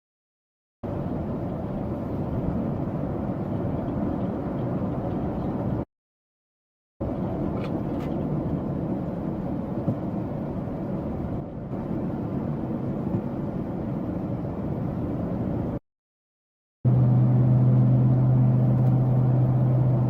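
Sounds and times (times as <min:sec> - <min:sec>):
car driving road noise: 0:00.8 - 0:05.9, 0:07.0 - 0:15.8, 0:16.9 - 0:20.0.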